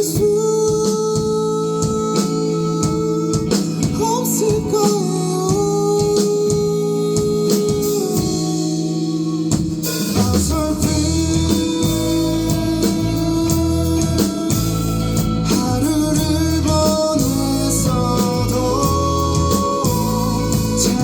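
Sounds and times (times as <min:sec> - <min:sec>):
drums: 0:00.0 - 0:21.0
electric guitar: 0:00.0 - 0:21.0
person singing: 0:00.0 - 0:21.0.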